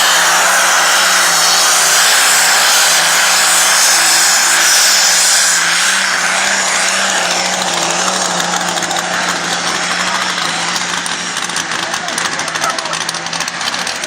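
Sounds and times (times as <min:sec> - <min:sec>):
tractor engine running hard: 0:00.0 - 0:14.0.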